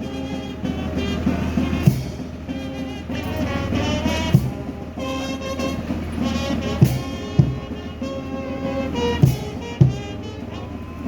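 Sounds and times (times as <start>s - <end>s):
held horn-like notes: 0.0s - 11.0s.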